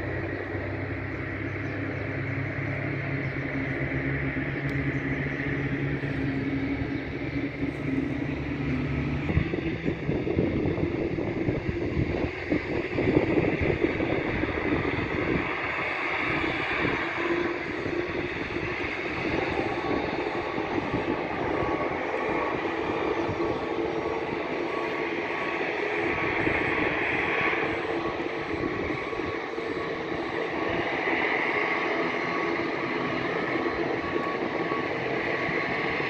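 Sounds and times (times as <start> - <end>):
aircraft engine drone: 0.0 - 36.0
aircraft engine whine: 0.0 - 36.0.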